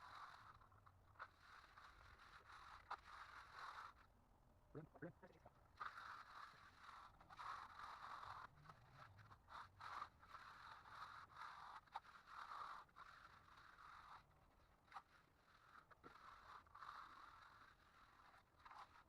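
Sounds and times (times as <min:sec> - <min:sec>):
tool scraping wet concrete: 0:00.2 - 0:04.1, 0:05.3 - 0:19.0.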